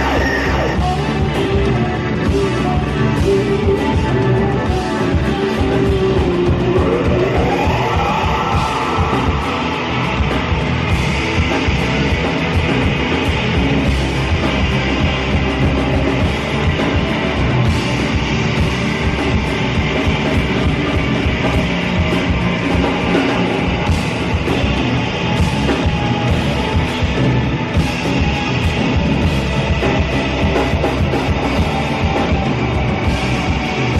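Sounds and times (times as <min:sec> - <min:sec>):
live rock band playing: 0:00.0 - 0:33.9
steady drum pulse: 0:00.0 - 0:33.9.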